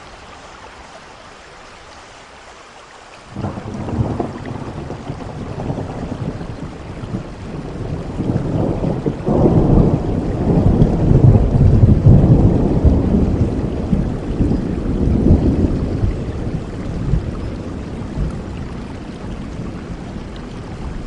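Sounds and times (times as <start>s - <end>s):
steady rain: 0.0s - 21.0s
thunder rumbling: 3.3s - 21.0s.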